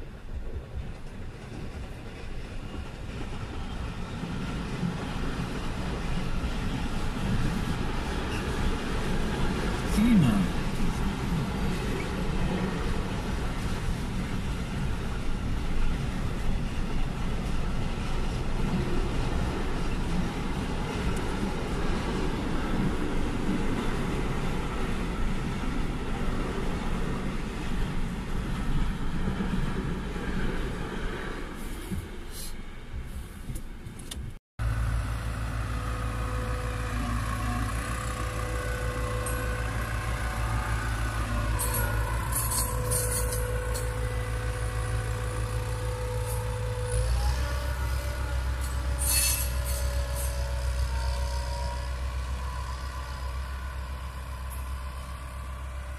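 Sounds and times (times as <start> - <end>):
train wheels rolling on rail: 0.0 - 55.9
diesel engine rumbling: 1.7 - 25.4, 34.1 - 55.9.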